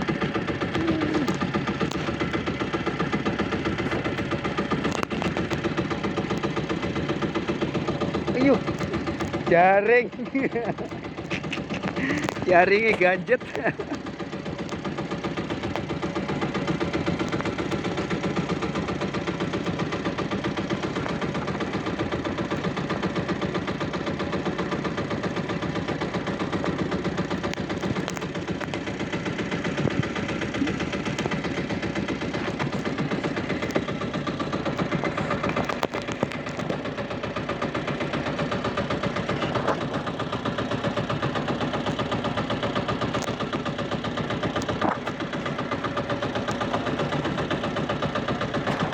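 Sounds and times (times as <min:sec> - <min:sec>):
boat engine chugging: 0:00.0 - 0:48.9.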